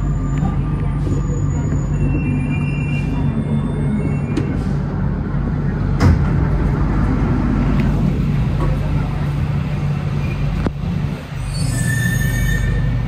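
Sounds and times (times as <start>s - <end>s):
metro car rumble: 0.0s - 13.0s.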